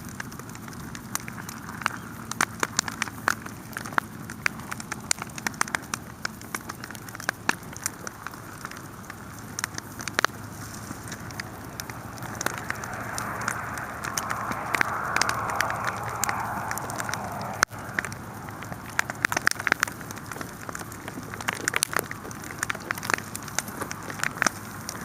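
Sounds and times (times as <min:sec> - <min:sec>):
campfire crackling and popping: 0:00.0 - 0:25.0
hiss of burning: 0:00.1 - 0:25.0.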